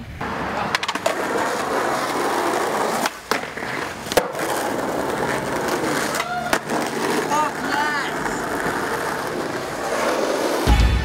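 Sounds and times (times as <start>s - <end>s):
skateboard wheels rolling on asphalt: 0.0s - 10.9s
skateboard clacking on pavement: 0.2s - 10.7s.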